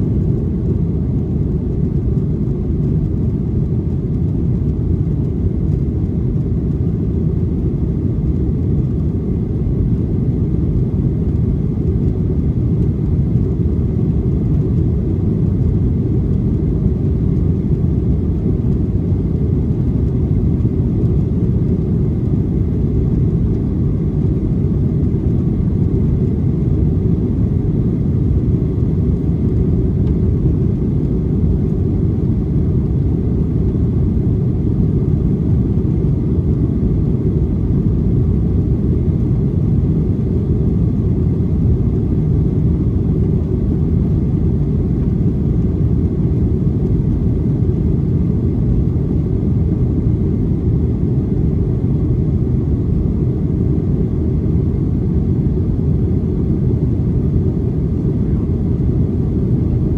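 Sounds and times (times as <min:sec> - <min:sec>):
jet engine rumble inside cabin: 0:00.0 - 0:59.9.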